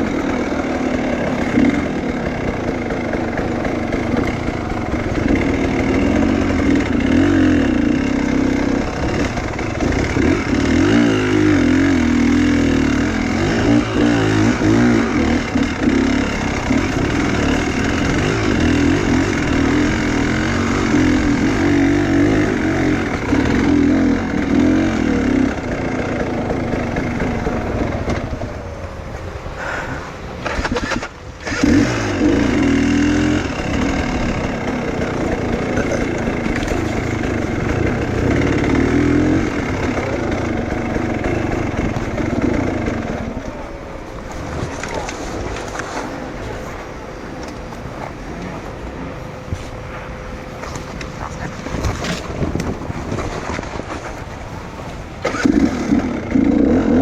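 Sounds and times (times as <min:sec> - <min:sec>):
motorcycle engine revving: 0:00.0 - 0:49.4, 0:50.4 - 0:57.0.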